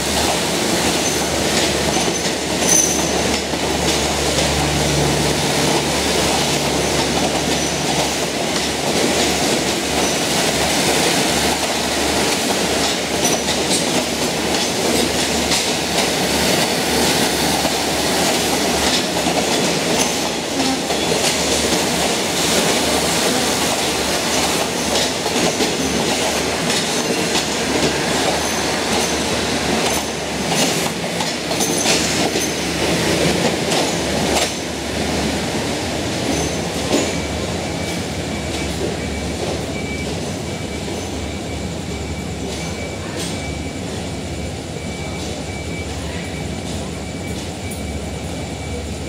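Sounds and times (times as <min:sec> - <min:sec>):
train rumbling: 0:00.0 - 0:49.0.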